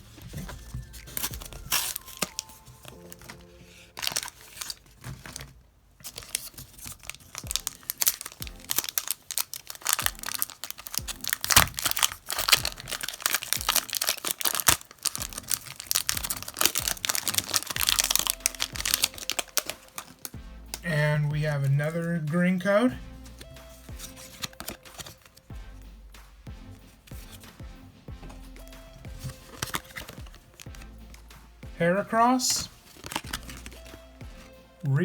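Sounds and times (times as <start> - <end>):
foil wrapper tearing and crinkling: 0.0 - 22.6, 23.2 - 25.6, 28.2 - 31.3, 32.0 - 34.9.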